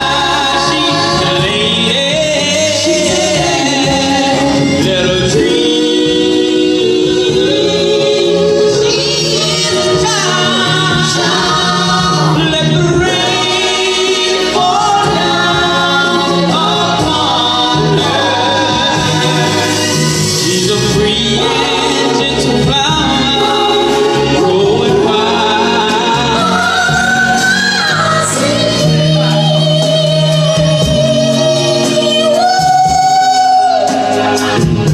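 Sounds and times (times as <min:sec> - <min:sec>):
band playing: 0:00.0 - 0:34.9
singers in harmony: 0:00.0 - 0:34.9.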